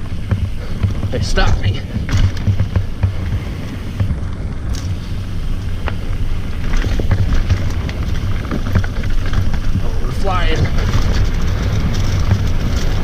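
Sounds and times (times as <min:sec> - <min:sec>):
bike clicking and rattling: 0:00.0 - 0:13.0
bike tyres rumbling on dirt: 0:00.0 - 0:13.0
wind buffeting microphone: 0:00.0 - 0:13.0.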